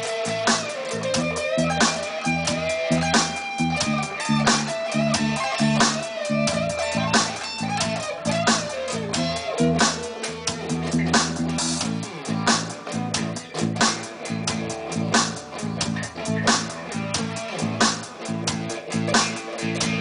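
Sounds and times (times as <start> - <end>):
bass line: 0.0 - 20.0
electric guitar blues lead: 0.0 - 20.0
steady drum beat: 0.0 - 20.0.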